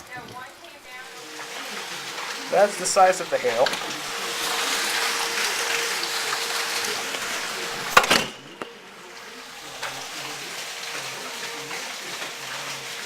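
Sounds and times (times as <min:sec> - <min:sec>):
rainwater hiss and patter: 0:00.0 - 0:13.0.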